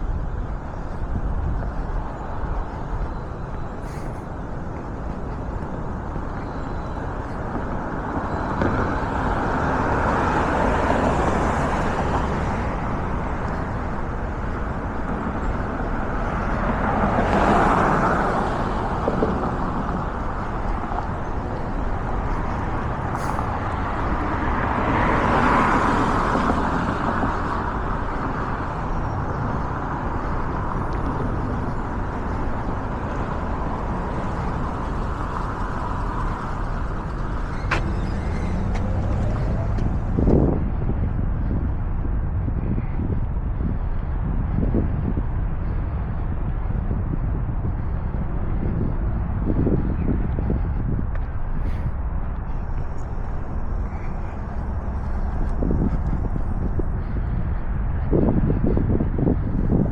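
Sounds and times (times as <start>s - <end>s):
cars passing: 0.0s - 59.9s
traffic rumble: 0.0s - 59.9s.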